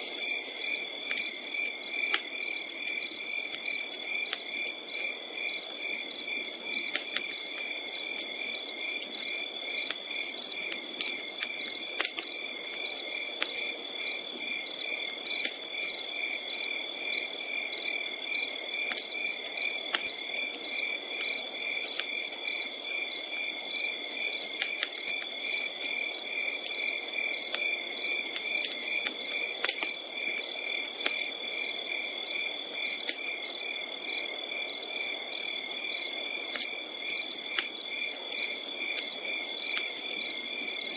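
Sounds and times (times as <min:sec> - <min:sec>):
campfire crackling: 0:00.0 - 0:40.9
crickets chirping: 0:00.0 - 0:40.9.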